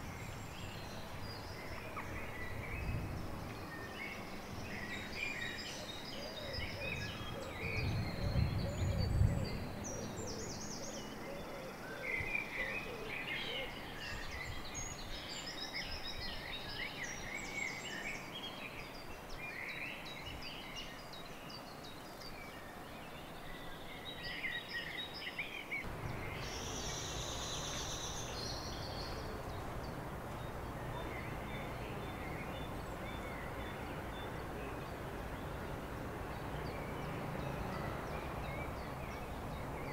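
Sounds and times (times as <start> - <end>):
outdoor background noise: 0.0 - 39.9
small birds singing and chirping: 0.0 - 39.9.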